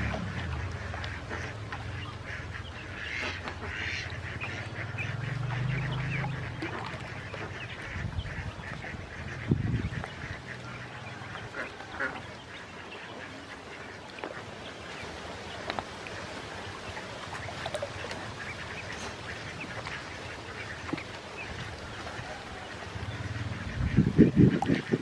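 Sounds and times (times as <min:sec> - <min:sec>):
ducklings peeping: 0:00.0 - 0:25.0.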